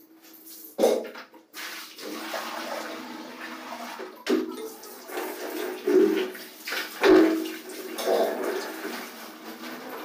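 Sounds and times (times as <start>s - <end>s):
water pouring onto tiled floor: 1.5s - 10.0s.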